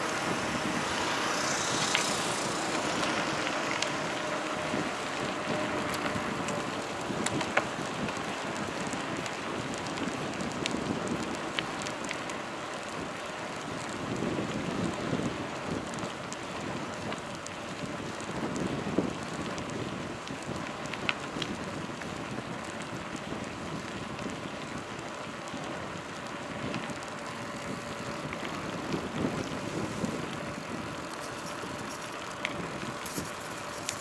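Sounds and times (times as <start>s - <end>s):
wind rushing over microphone: 0.0s - 12.3s, 12.9s - 34.0s
tyre hum on asphalt: 0.0s - 34.0s.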